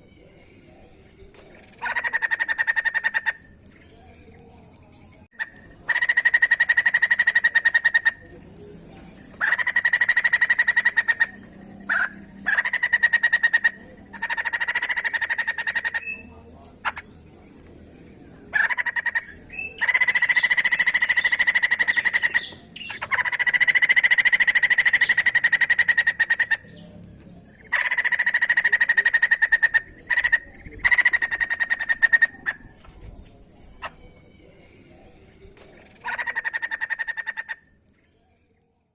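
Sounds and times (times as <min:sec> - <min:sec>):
bird rapid chattering calls: 0:01.0 - 0:34.4, 0:35.2 - 0:37.7.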